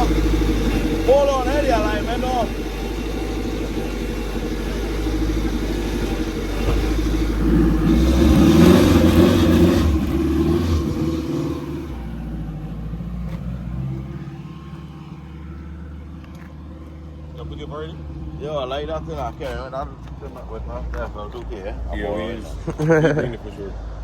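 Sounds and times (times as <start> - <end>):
car engine running: 0.0 - 23.6.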